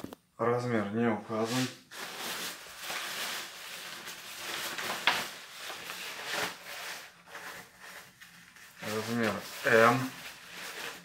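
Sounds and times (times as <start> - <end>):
nylon fabric rustling and crinkling: 1.5 - 11.0.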